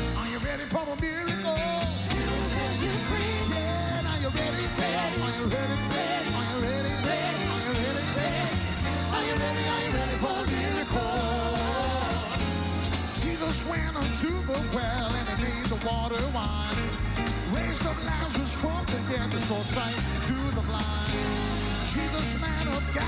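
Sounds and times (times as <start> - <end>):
man singing: 0.0 - 8.6, 13.1 - 23.0
band playing: 0.0 - 23.0
bass line: 0.0 - 23.0
electric keyboard: 0.0 - 23.0.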